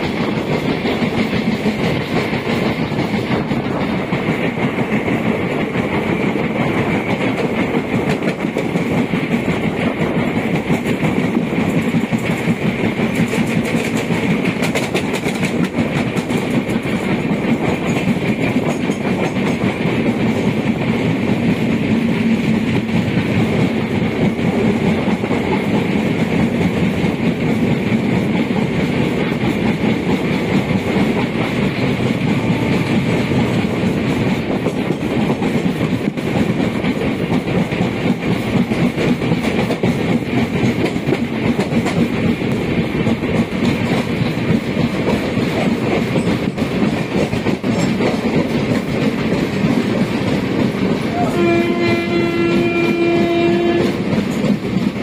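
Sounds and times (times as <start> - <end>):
clickety-clack of rail joints: 0.0 - 55.0
train wheels rumbling on rail: 0.0 - 55.0.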